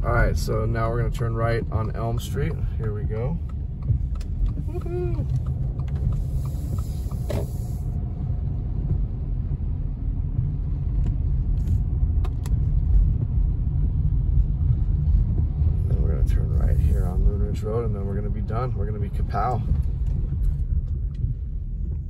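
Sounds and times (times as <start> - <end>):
car driving on wet road: 0.0 - 22.0.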